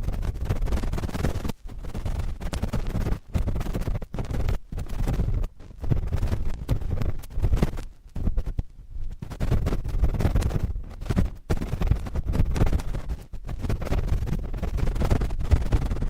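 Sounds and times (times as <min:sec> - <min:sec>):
cotton swab scratching microphone: 0:00.0 - 0:16.0.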